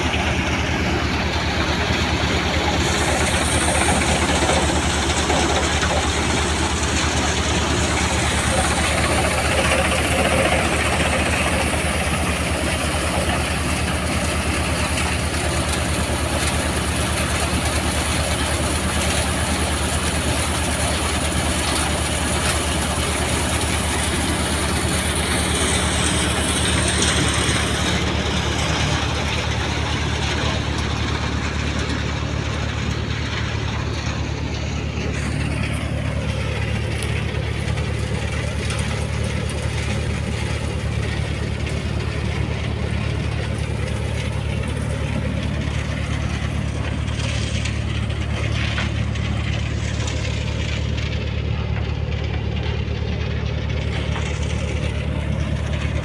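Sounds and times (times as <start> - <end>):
thresher threshing rush: 0.0 - 51.9
tractor diesel engine hum: 0.0 - 56.0.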